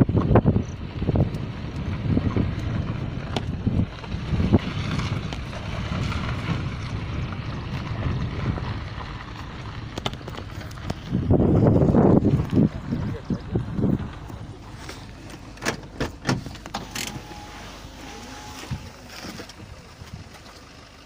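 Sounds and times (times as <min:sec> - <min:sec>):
wind buffeting the microphone: 0:00.0 - 0:16.7, 0:18.6 - 0:20.5
car rumbling: 0:00.0 - 0:21.0.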